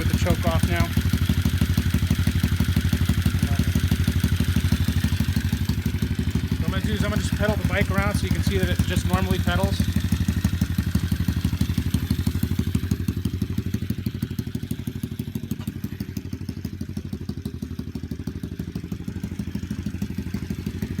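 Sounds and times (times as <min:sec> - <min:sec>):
motorbike engine idling: 0:00.0 - 0:21.0.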